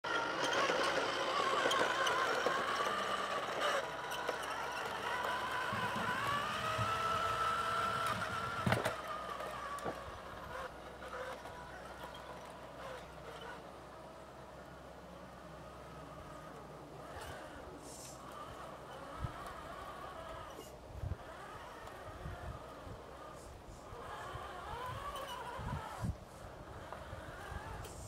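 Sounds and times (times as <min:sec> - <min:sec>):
small electric motor whining: 0:00.0 - 0:28.0.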